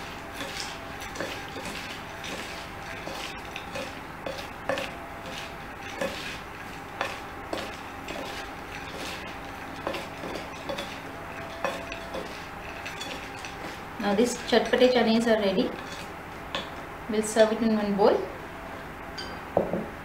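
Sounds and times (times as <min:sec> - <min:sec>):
spoons clicking and scraping plate: 0:00.0 - 0:16.8.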